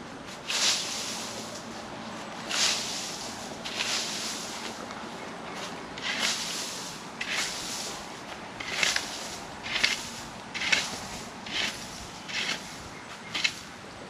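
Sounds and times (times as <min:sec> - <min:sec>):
dry leaves rustling: 0:00.0 - 0:13.8.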